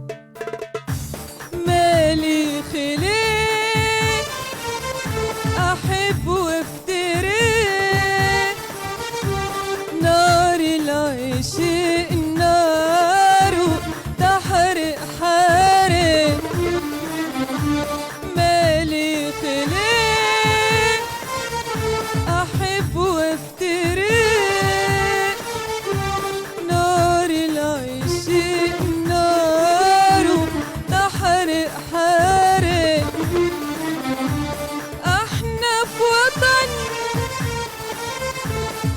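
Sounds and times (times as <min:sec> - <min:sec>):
instrumental accompaniment with beat: 0:00.0 - 0:38.9
woman singing: 0:01.5 - 0:37.8.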